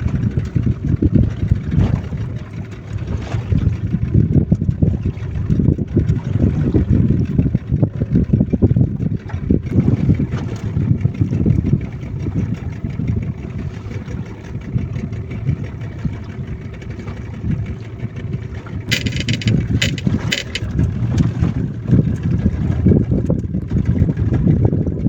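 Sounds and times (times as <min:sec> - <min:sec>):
boat engine running: 0:00.0 - 0:25.0
water and wind noise: 0:00.0 - 0:25.0.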